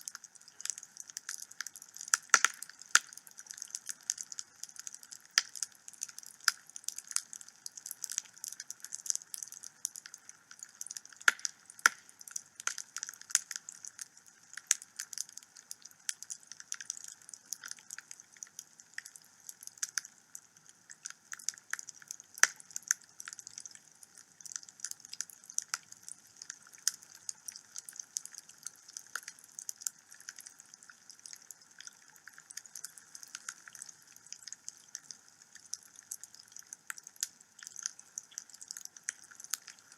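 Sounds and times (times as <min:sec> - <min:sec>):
fire hissing softly: 0:00.0 - 0:39.9
wood fire crackling and popping: 0:00.0 - 0:39.9.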